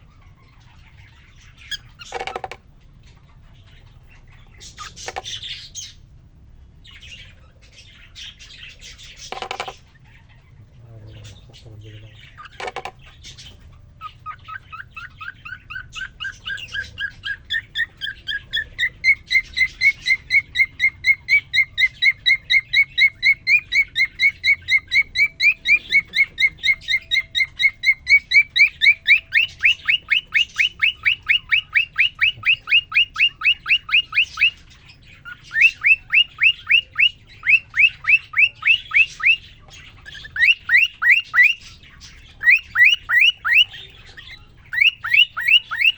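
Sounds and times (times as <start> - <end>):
cockatiel chirping song: 0.0 - 45.9.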